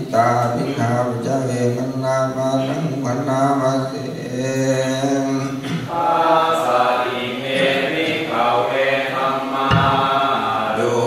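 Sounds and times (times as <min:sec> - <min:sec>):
low voices chanting together: 0:00.0 - 0:11.0.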